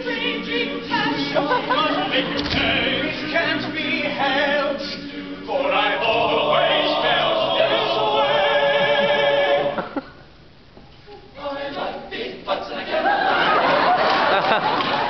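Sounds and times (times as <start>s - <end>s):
a cappella voices singing: 0.0s - 10.0s, 11.3s - 14.0s.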